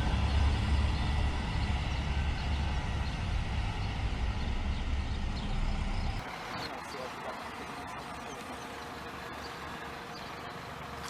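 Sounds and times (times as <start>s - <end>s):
coach engine rumble: 0.0s - 11.0s
road noise: 0.0s - 11.0s.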